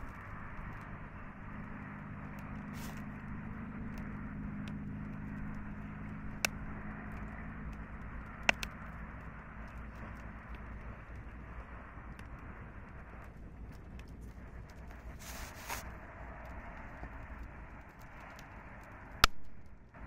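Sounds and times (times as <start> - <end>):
campfire hissing and crackling: 0.0 - 20.0.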